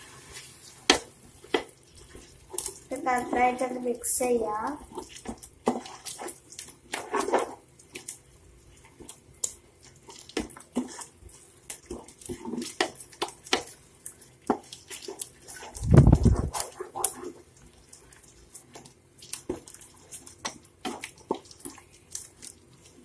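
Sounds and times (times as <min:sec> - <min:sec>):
wooden spatula stirring in pot: 0:00.0 - 0:23.0.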